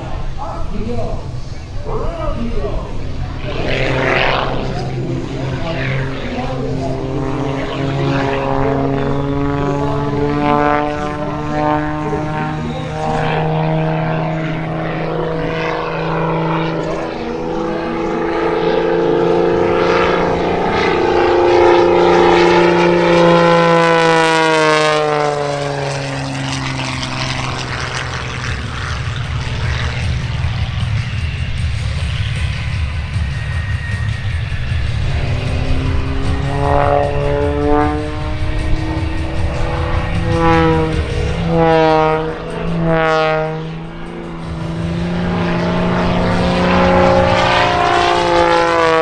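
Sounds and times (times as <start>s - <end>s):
propeller airplane flying by: 0.0s - 49.0s.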